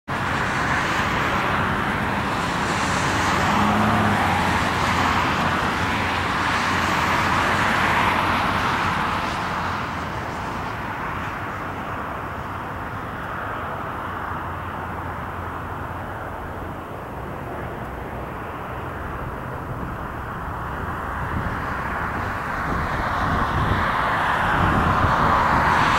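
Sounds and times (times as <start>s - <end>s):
cars passing: 0.1s - 25.9s
distant jet engine: 0.1s - 25.9s.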